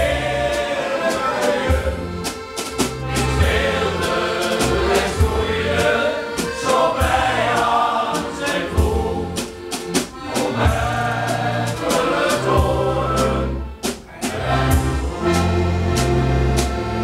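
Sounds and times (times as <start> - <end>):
male choir singing: 0.0 - 2.3, 3.1 - 9.5, 10.2 - 15.6
accordion: 0.0 - 17.0
drum kit steady beat: 0.0 - 17.0.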